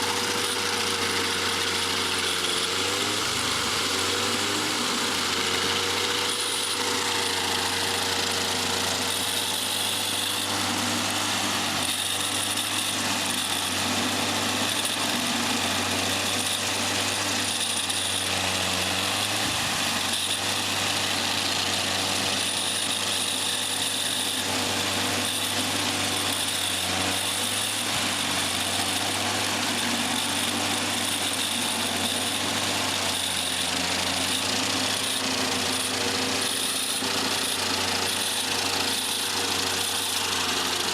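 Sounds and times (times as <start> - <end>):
cutter wheel grinding: 0.0 - 40.9
stump grinder engine drone: 0.0 - 40.9.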